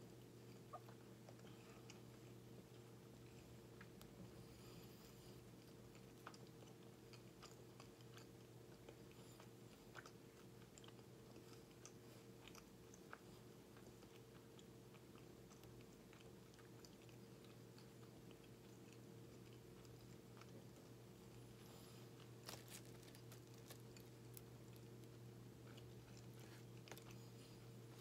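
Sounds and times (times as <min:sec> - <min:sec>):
man chewing: 0:05.4 - 0:28.0.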